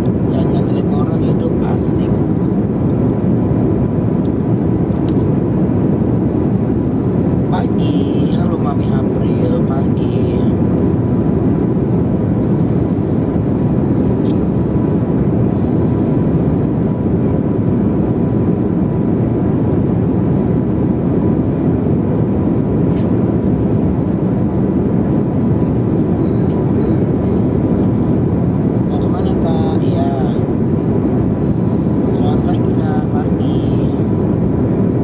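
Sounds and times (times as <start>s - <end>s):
airliner cabin engine roar: 0.0s - 35.0s.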